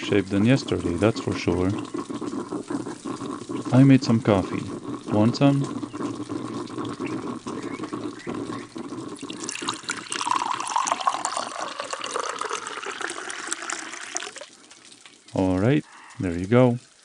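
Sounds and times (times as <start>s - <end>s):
coffee pouring into cup: 0.0s - 15.0s.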